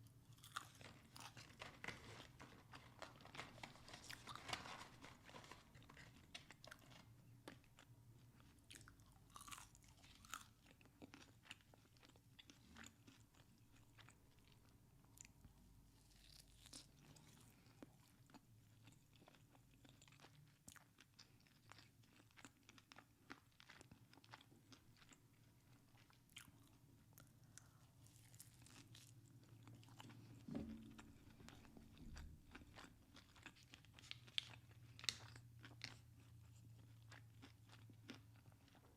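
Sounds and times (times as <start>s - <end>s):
person chewing crunchy food: 0.2s - 14.6s, 16.0s - 38.9s.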